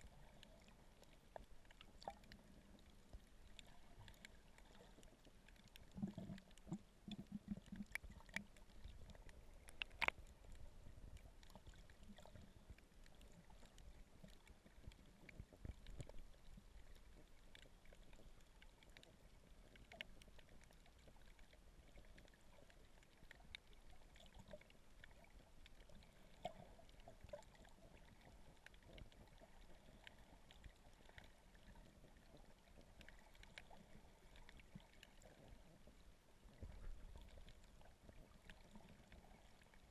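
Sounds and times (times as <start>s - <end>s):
muffled underwater water noise: 0.0s - 39.9s
small clicks and ticks: 0.0s - 39.9s.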